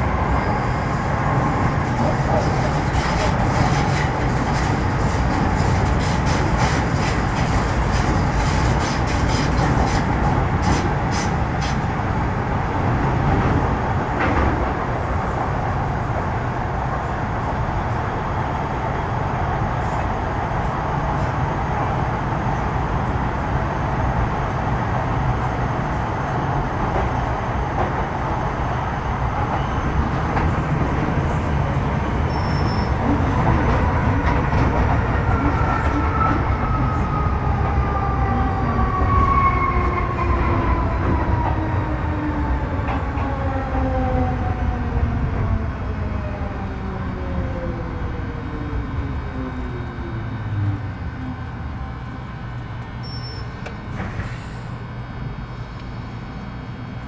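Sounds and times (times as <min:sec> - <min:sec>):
train wheel and track rumble: 0:00.0 - 0:57.0.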